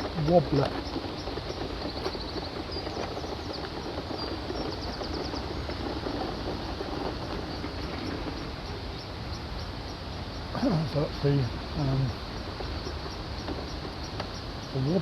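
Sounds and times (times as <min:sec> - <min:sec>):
rumbling machinery clatter: 0:00.0 - 0:15.0.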